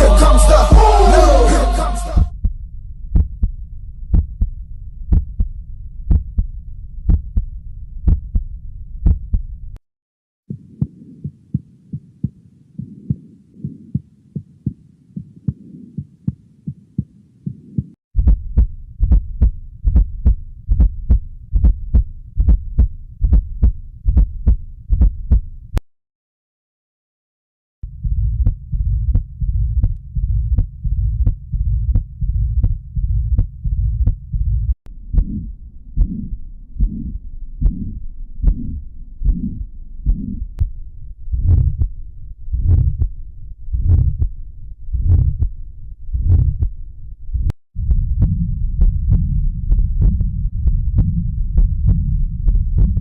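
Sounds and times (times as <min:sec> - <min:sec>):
heartbeat through stethoscope: 0:02.2 - 0:09.6, 0:10.5 - 0:25.8, 0:27.8 - 0:53.0.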